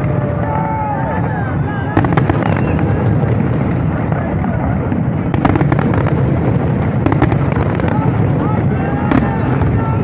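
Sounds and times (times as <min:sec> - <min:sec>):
fireworks crackling: 0:00.0 - 0:10.0
firework shells booming: 0:01.9 - 0:10.0.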